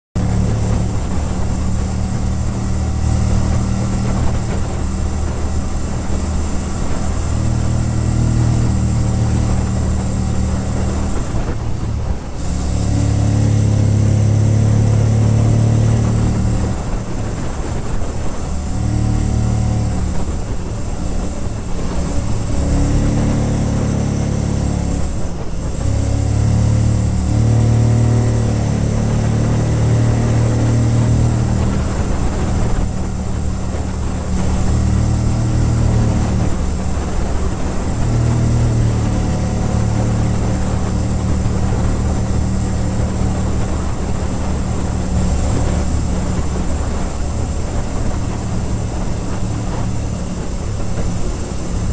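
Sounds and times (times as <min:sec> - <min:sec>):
motorcycle engine under load: 0:00.2 - 0:51.9
wind rush: 0:00.2 - 0:51.9.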